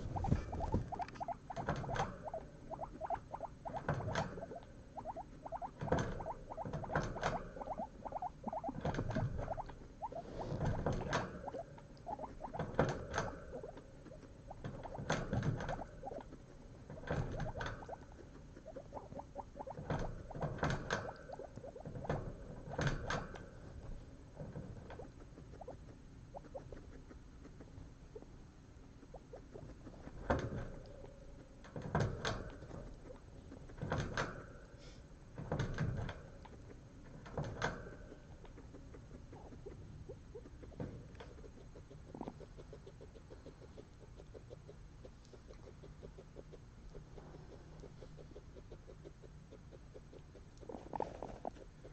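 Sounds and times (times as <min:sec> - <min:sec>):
guinea pig chewing: 0:00.0 - 0:51.9.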